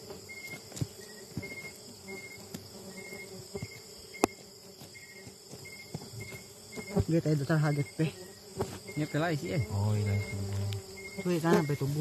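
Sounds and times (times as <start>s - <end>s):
insect hum: 0.0s - 12.0s
insects chirping: 0.0s - 12.0s.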